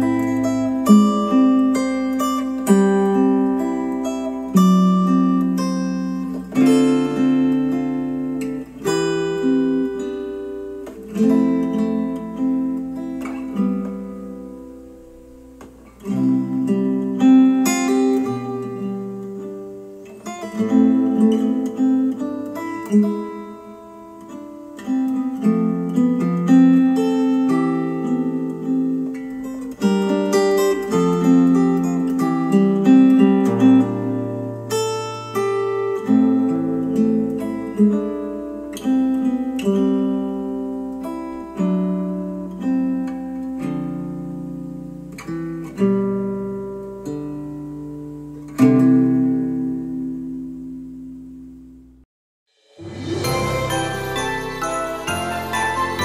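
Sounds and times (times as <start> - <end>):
acoustic guitar music: 0.0 - 52.1, 52.7 - 56.0.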